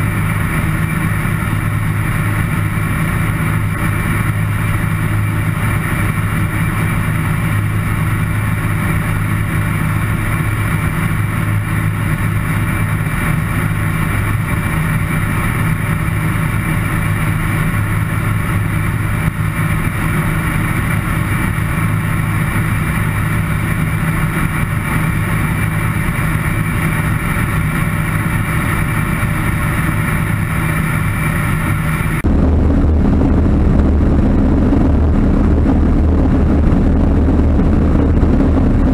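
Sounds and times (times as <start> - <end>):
light aircraft engine: 0.0 - 38.9
wind noise: 0.0 - 38.9.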